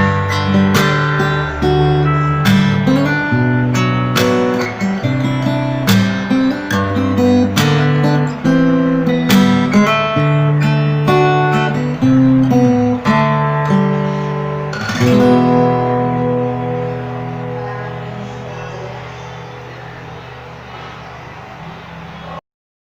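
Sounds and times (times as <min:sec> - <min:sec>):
fingerstyle acoustic guitar: 0:00.0 - 0:22.4
strummed guitar chord: 0:00.0 - 0:22.4.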